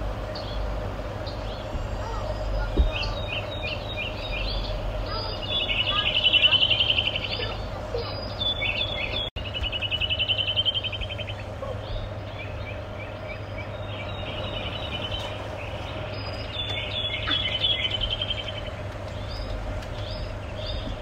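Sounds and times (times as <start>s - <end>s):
songbirds chirping and trilling: 0.0s - 21.0s
steady low hum: 0.0s - 21.0s.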